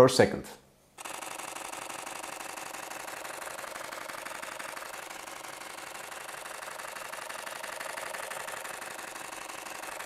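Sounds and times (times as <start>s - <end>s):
rapid camera shutter clicks: 1.0s - 10.0s.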